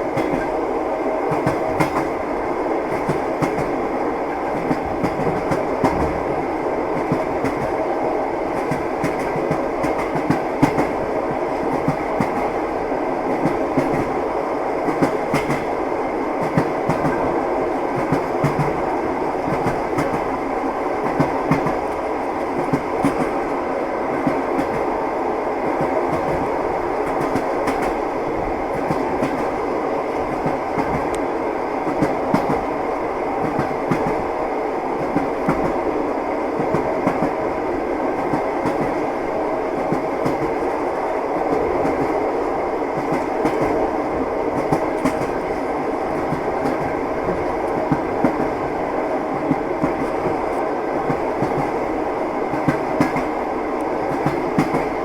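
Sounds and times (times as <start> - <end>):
train wheels clattering on rails: 0.0 - 25.0, 25.6 - 35.9, 36.6 - 55.0
train rumbling: 0.0 - 55.0.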